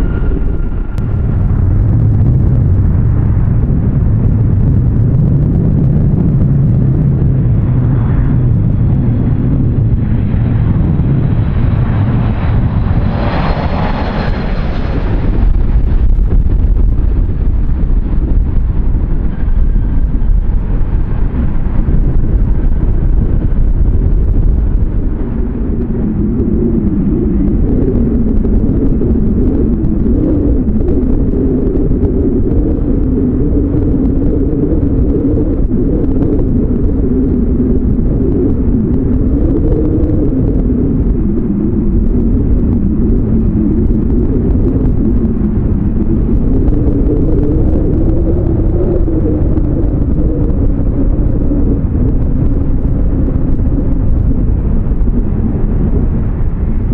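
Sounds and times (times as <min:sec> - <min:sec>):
jet engines rumbling: 0:00.0 - 0:56.9
wavering hum: 0:00.0 - 0:56.9.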